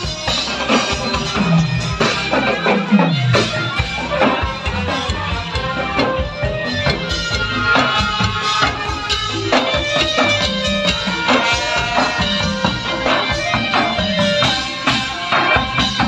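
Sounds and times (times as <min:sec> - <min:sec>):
brass horns playing melody: 0:00.0 - 0:16.0
steady drum beat: 0:00.0 - 0:16.0.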